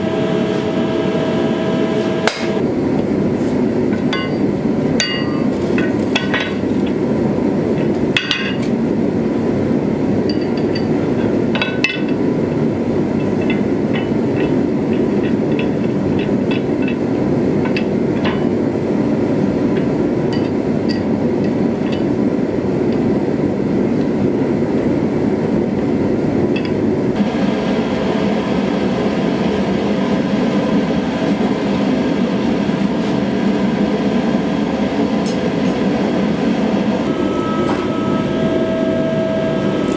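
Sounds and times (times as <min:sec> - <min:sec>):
gas forge hissing roar: 0:00.0 - 0:39.9
shop machinery roar: 0:00.0 - 0:39.9.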